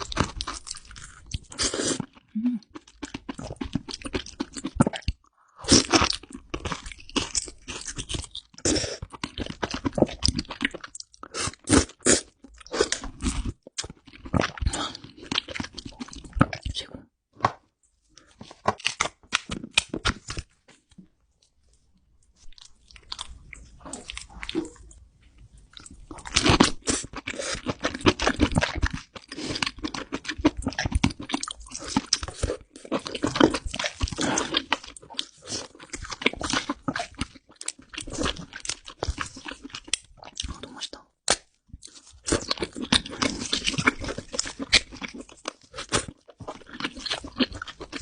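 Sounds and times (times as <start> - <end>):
crunching and chewing: 0.0 - 16.9, 22.3 - 48.0.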